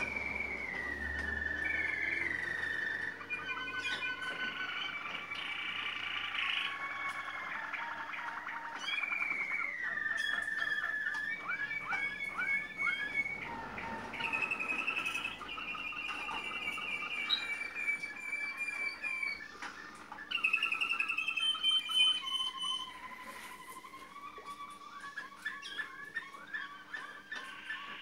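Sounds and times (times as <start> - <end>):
canaries singing trilled song: 0.0 - 28.0.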